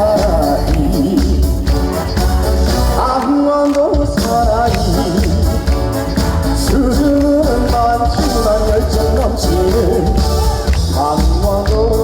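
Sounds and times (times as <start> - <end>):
band playing: 0.0 - 12.0
person singing: 0.0 - 12.0.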